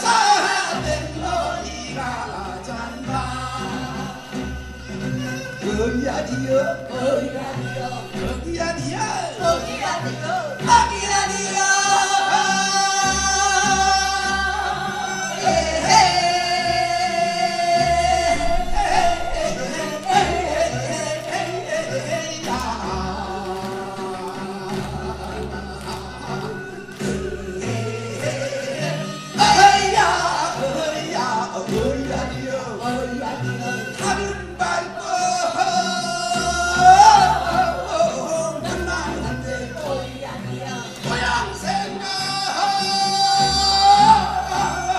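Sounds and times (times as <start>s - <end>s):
backing music: 0.0s - 44.9s
cast singing on stage: 0.0s - 44.9s
instrumental accompaniment: 0.0s - 44.9s.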